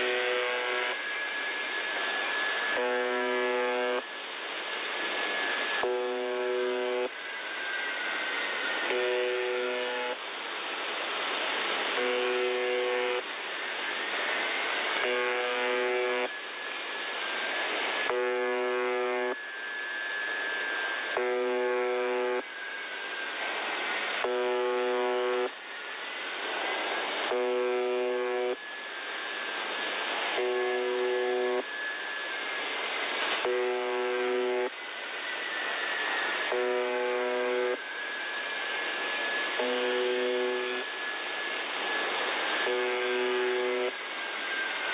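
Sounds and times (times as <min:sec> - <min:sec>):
rasping radio buzz tone: 0:00.0 - 0:04.2, 0:05.1 - 0:10.2, 0:11.8 - 0:13.3, 0:14.8 - 0:44.9
radio static hiss: 0:00.0 - 0:44.9.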